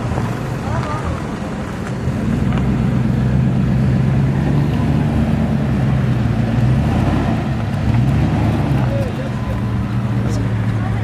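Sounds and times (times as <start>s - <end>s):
vehicle engines humming: 0.0s - 11.0s.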